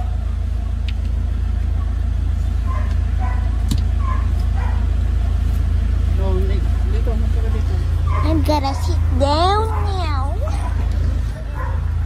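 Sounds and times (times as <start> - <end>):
car running low rumble: 0.0 - 12.0.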